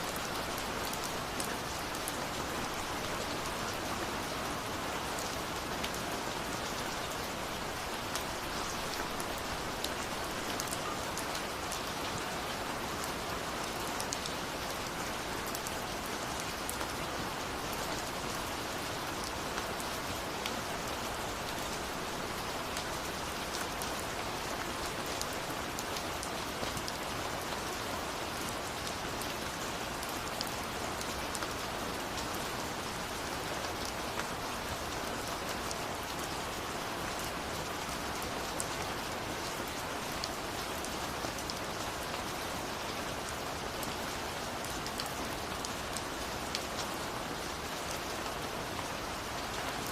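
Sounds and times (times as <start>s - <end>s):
rain pattering on a surface: 0.0s - 49.9s.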